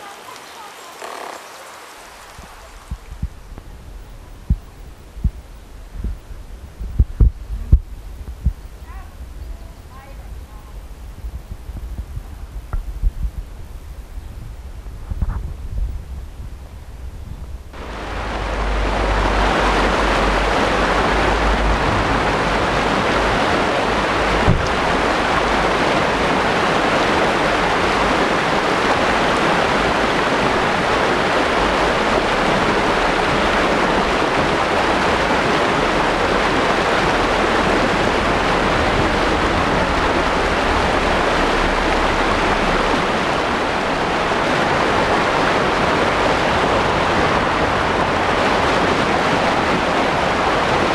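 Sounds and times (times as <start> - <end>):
floodwater rushing: 0.0 - 50.9.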